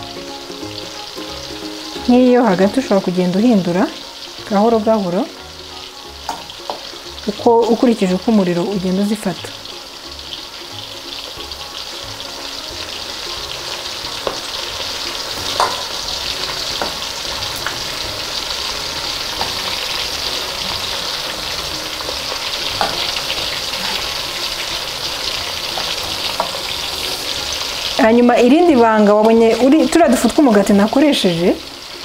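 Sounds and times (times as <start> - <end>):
meatballs sizzling in oil: 0.0 - 32.0.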